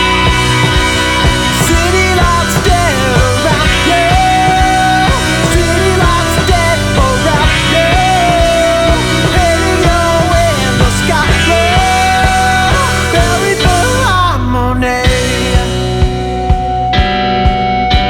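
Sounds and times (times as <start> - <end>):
rock band music: 0.0 - 18.0.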